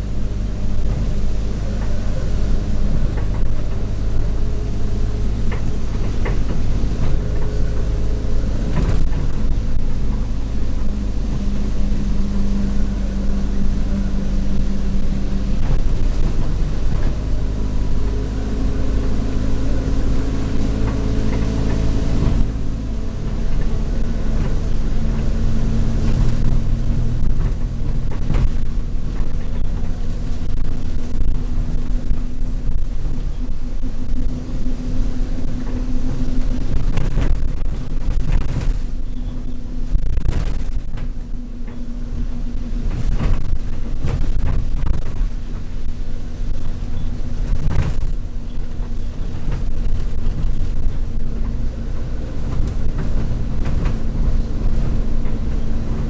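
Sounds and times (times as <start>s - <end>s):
bus body rattling: 0.0s - 56.0s
bus engine running: 0.0s - 56.0s.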